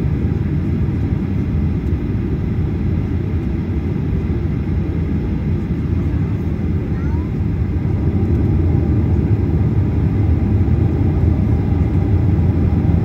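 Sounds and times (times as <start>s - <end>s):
jet engines and wheels rumbling: 0.0s - 13.0s.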